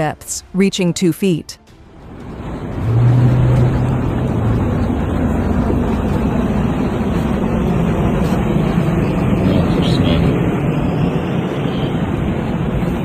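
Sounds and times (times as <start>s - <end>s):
vehicle engine humming: 0.0s - 13.0s
broad rushing noise: 1.7s - 13.0s.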